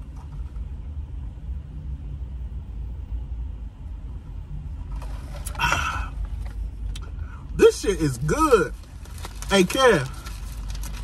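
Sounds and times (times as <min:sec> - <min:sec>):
car idling from inside: 0:00.0 - 0:11.0.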